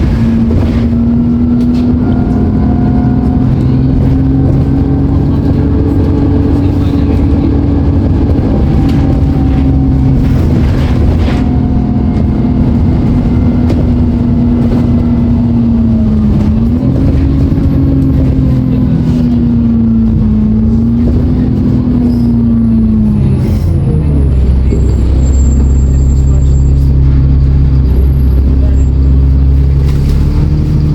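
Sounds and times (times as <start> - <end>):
bus diesel engine whining: 0.0 - 30.9.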